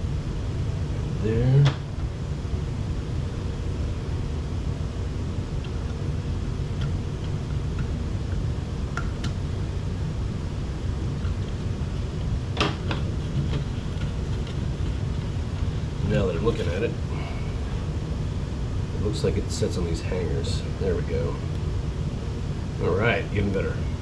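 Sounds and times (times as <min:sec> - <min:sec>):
low fan hum: 0:00.0 - 0:24.0.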